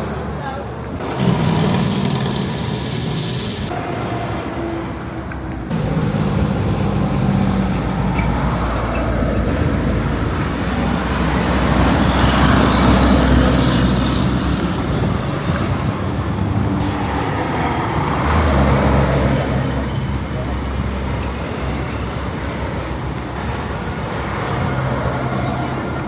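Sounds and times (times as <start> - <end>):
road traffic: 0.0 - 26.0
truck engine running: 0.0 - 26.0.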